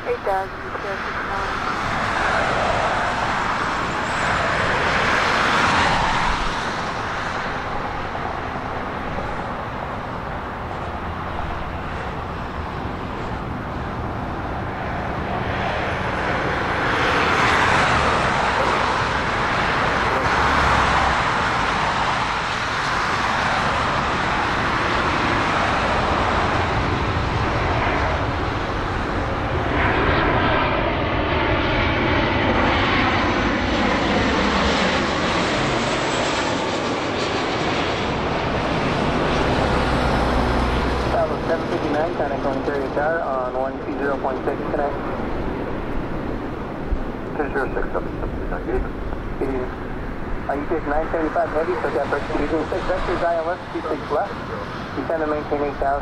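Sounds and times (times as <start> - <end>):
airplane engines rushing: 0.0 - 56.0.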